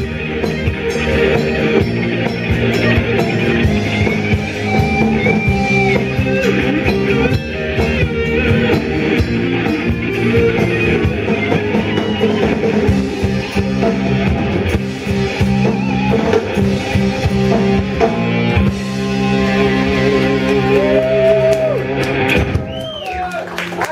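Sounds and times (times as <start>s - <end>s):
instrumental rock music with guitar: 0.0s - 23.1s.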